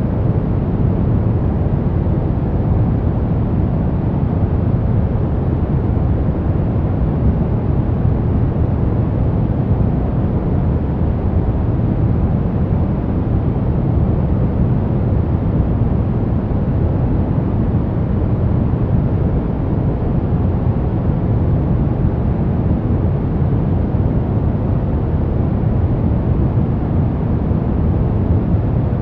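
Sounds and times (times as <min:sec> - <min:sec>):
deep steady noise rush: 0:00.0 - 0:29.0.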